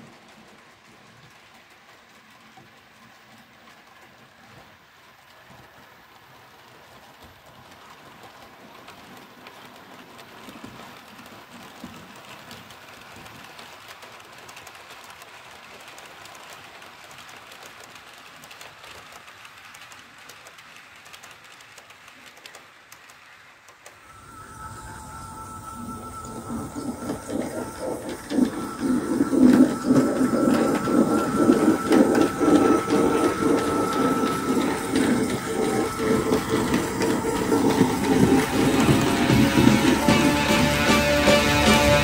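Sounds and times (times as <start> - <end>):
model train rattling on track: 0.0 - 42.0.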